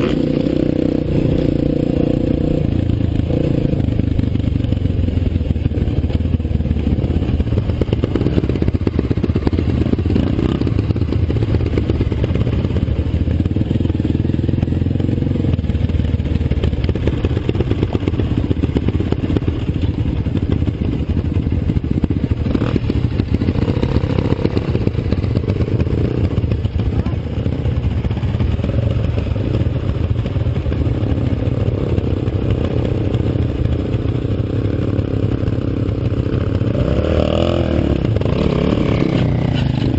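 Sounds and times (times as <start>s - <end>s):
dirt bike engine running: 0.0s - 39.9s
clatter: 2.8s - 36.8s, 37.4s - 39.9s.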